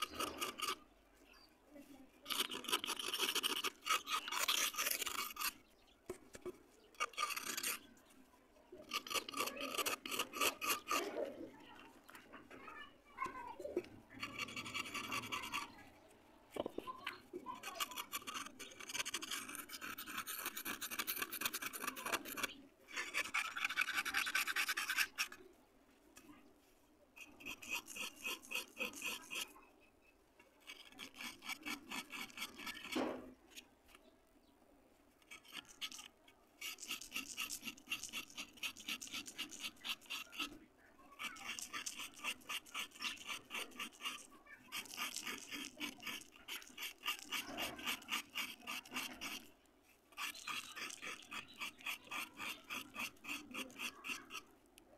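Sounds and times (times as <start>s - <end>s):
knife scraping dry clay: 0.0s - 26.6s, 27.2s - 34.4s, 35.0s - 54.9s.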